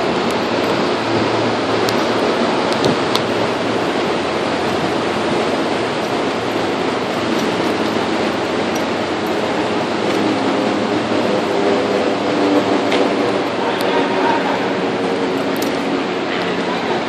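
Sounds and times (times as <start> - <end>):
machinery rushing noise: 0.0 - 17.0.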